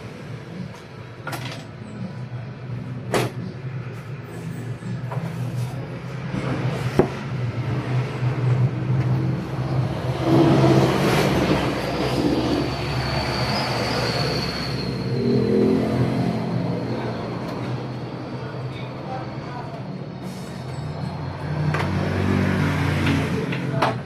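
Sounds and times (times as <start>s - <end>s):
motor traffic rumble: 0.0s - 24.0s.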